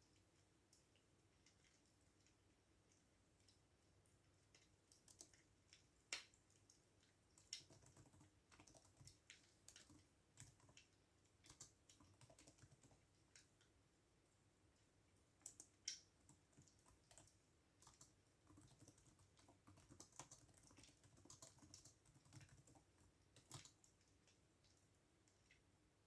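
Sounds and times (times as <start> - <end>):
faint keyboard typing: 0.0 - 13.8, 14.8 - 25.7.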